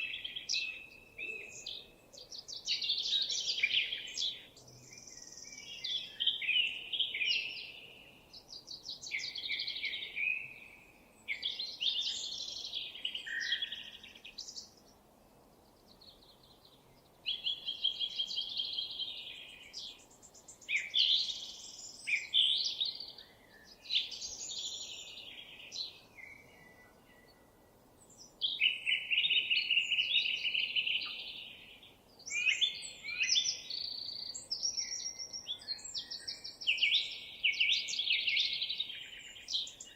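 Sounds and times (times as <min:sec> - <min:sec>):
songbird singing trills: 0:00.0 - 0:39.9.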